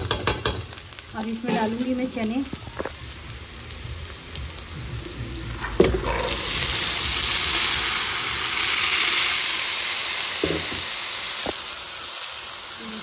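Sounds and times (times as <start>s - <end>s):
chickpeas sizzling in oil: 0.0s - 13.0s.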